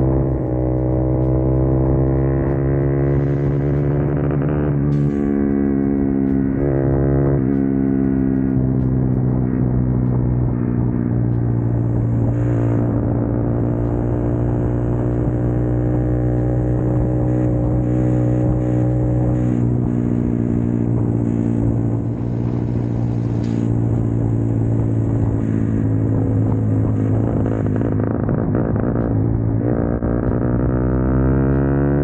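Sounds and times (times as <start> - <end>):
motorcycle engine running steadily: 0.0 - 32.0.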